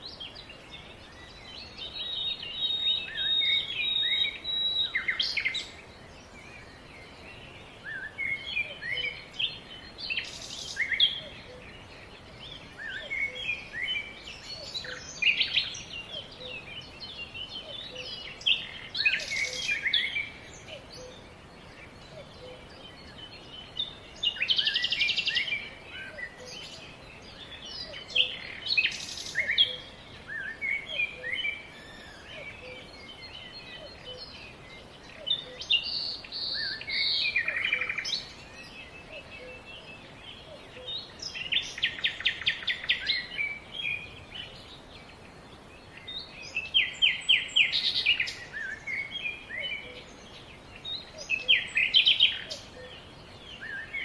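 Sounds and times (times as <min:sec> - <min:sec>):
songbirds chirping: 0:00.0 - 0:54.0
steady background hiss: 0:00.0 - 0:54.0.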